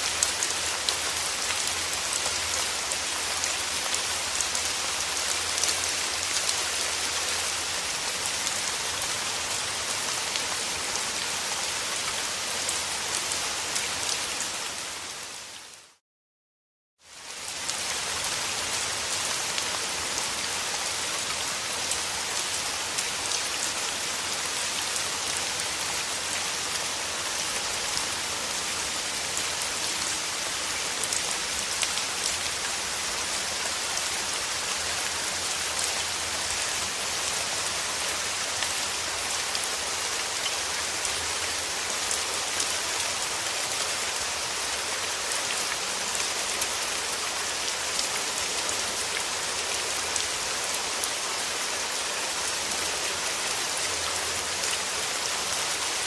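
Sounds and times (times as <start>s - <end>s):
steady rain hiss and patter: 0.0s - 16.0s, 17.0s - 56.0s.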